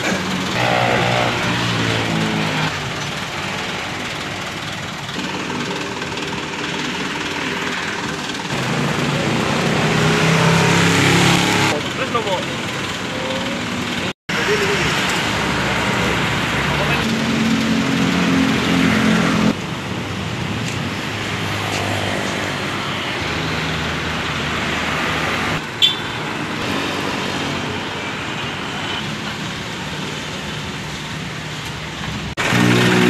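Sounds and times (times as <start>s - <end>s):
street traffic: 0.0s - 33.0s.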